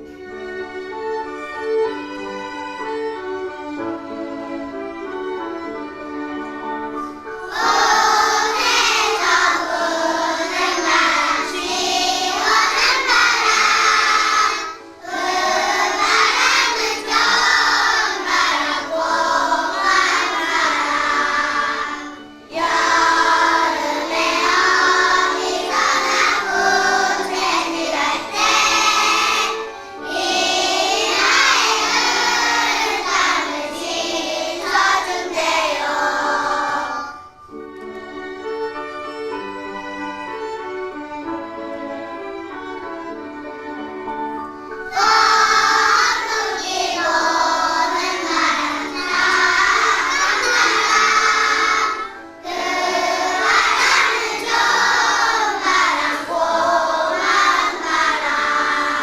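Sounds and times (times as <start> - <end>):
children's choir singing: 0.0 - 59.0
instrumental accompaniment: 0.0 - 59.0.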